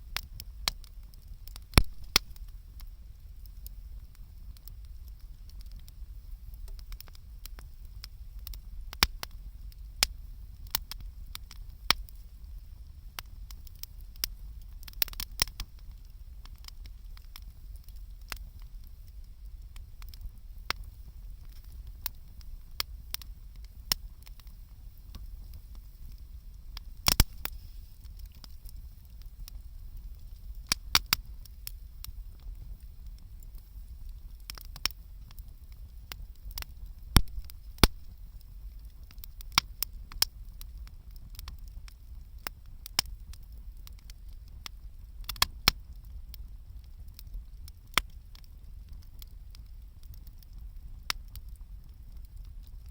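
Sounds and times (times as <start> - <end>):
campfire crackling and popping: 0.0 - 52.9
fire rumbling: 0.0 - 52.9.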